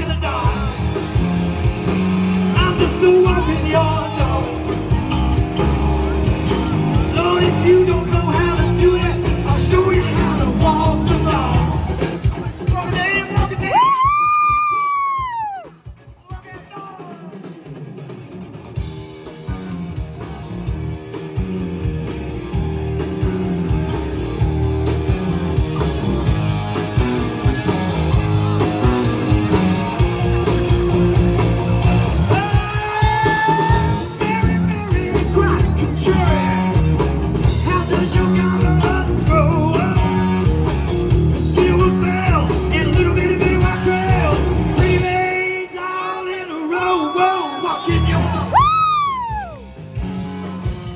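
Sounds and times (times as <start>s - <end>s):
electric bass: 0.0s - 13.8s, 18.0s - 45.4s, 47.9s - 50.9s
bending guitar melody line: 0.0s - 15.0s, 17.3s - 45.4s, 47.9s - 50.9s
electric guitar: 0.0s - 16.0s, 17.3s - 46.2s, 47.5s - 50.9s
drum kit groove: 0.0s - 45.8s, 48.2s - 50.9s.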